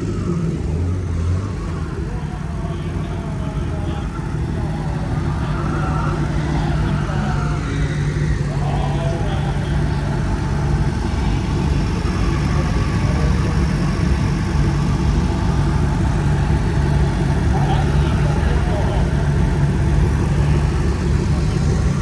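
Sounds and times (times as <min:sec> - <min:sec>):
car engine running steadily: 0:00.0 - 0:22.0.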